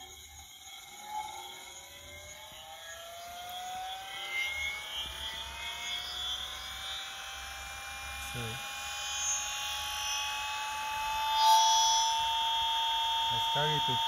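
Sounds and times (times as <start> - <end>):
motor generator whine rising: 0.0 - 14.0.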